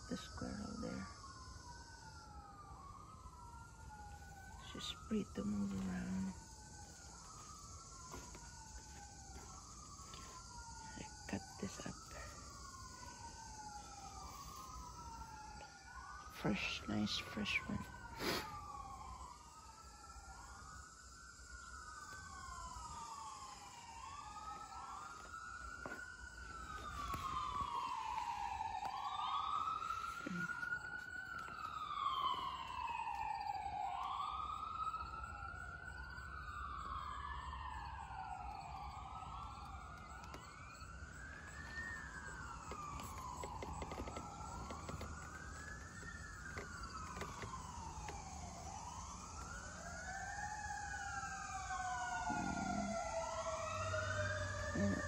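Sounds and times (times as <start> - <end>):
emergency sirens wailing: 0.0 - 55.0.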